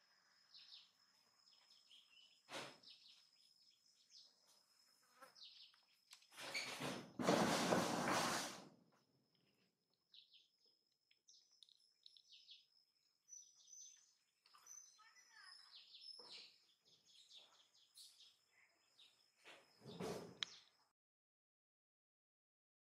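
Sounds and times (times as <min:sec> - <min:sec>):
small birds chirping: 0:00.0 - 0:06.8, 0:09.1 - 0:20.9.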